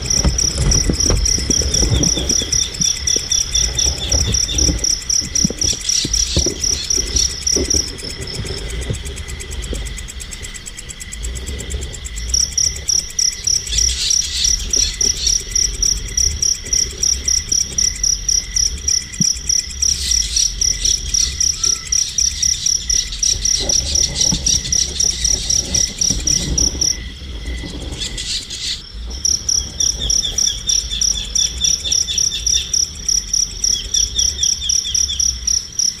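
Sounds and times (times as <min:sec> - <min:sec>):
cricket chirping: 0:00.0 - 0:36.0.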